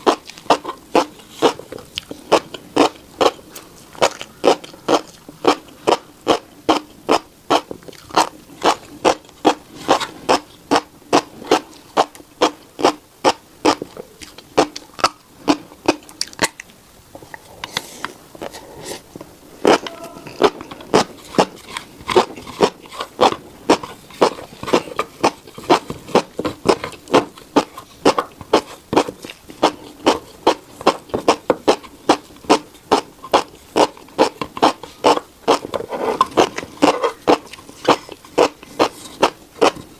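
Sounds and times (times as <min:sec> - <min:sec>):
chewing seeds: 0:00.0 - 0:19.0, 0:19.6 - 0:39.9.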